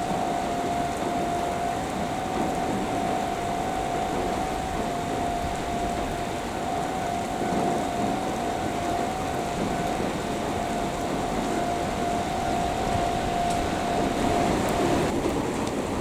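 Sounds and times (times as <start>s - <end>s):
train mechanical hum: 0.0s - 16.0s
train whine: 0.0s - 16.0s.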